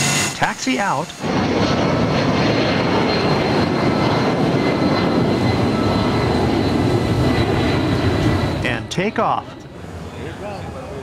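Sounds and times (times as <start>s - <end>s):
high steady jet whine: 0.0s - 11.0s
jet engines rumbling: 0.0s - 11.0s.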